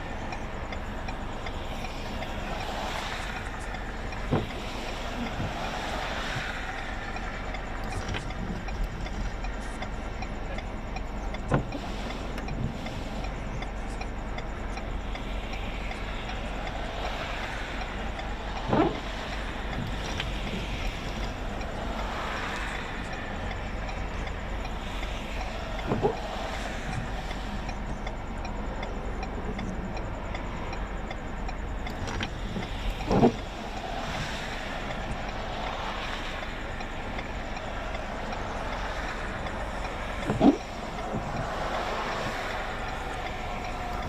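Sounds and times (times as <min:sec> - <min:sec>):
vehicle noise: 0:00.0 - 0:44.0
wind: 0:00.0 - 0:44.0.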